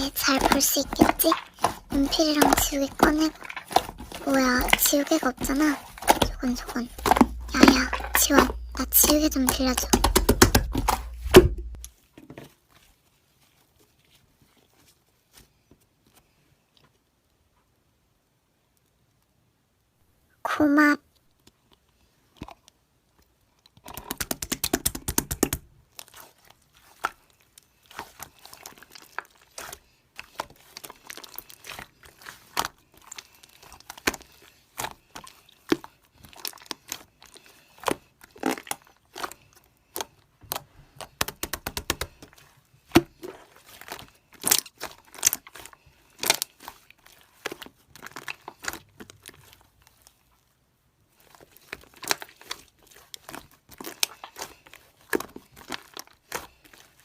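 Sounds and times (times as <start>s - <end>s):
slime squishing with crackling clicks: 0.0s - 12.0s, 21.3s - 50.5s, 51.1s - 57.0s.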